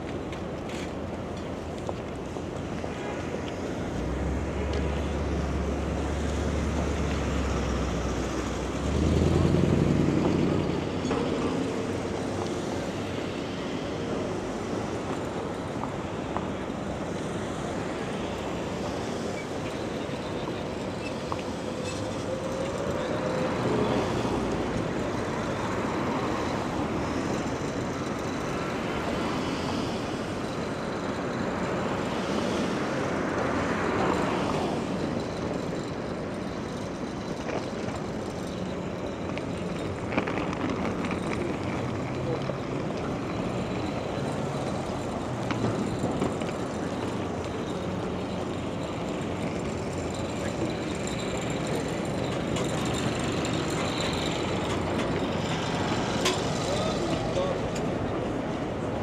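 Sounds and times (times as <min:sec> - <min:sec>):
city traffic noise: 0:00.0 - 0:59.0
vehicles passing close by: 0:00.0 - 0:59.0.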